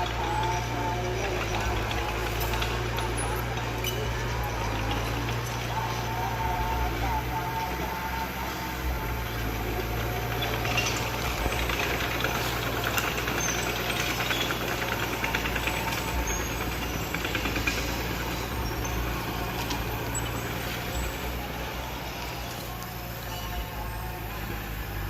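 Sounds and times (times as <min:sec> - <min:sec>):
rapid clattering and rattling: 0:00.0 - 0:07.0, 0:07.6 - 0:25.0
heavy machinery diesel engine: 0:00.0 - 0:25.0.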